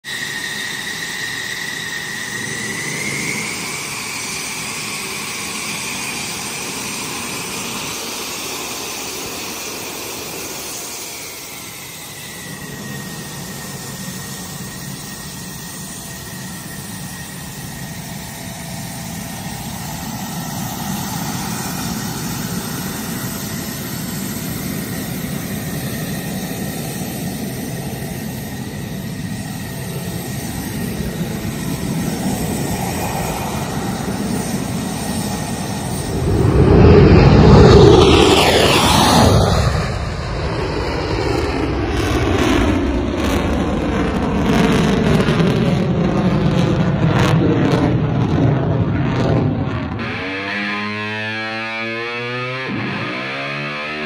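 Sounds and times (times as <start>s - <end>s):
jet engine whine and rumble: 0.0s - 54.0s.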